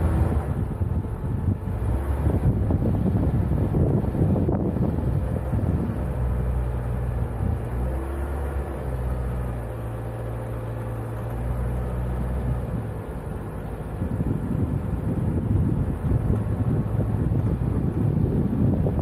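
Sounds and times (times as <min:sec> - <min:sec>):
car engine running: 0:00.0 - 0:19.0
wind rumble on microphone: 0:00.0 - 0:19.0.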